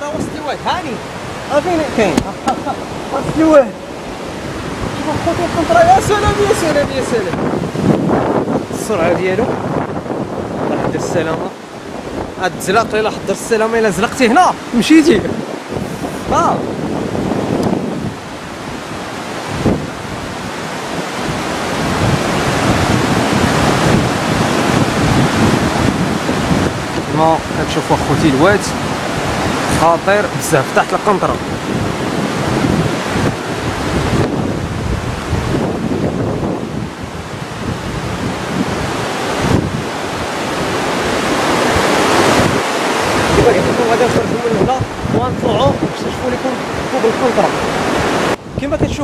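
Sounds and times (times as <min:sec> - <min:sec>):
floodwater rushing: 0:00.0 - 0:49.0
wind buffeting microphone: 0:00.0 - 0:49.0.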